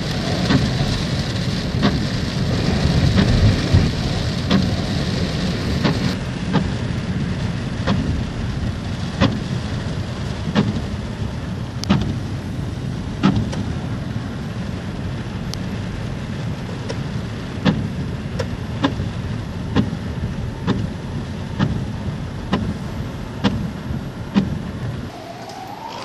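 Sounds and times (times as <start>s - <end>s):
car rumbling on wet road: 0.0s - 26.0s
rain: 0.0s - 26.0s.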